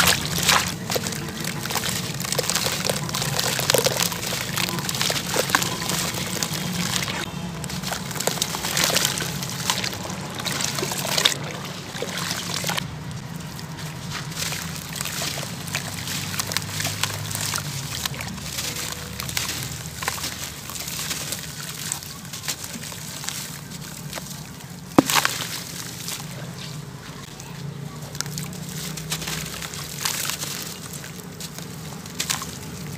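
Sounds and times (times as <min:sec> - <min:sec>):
water sloshing and splashing: 0:00.0 - 0:32.9
wet sand crumbling: 0:00.0 - 0:32.9.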